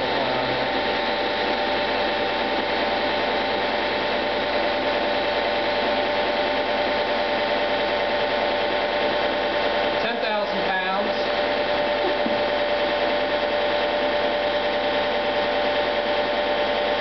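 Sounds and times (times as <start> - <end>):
hydraulic pump hum: 0.0 - 17.0.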